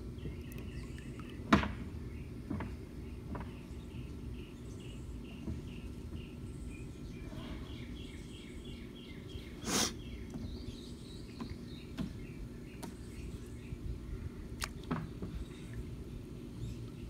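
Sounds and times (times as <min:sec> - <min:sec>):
pool pump humming: 0:00.0 - 0:17.0.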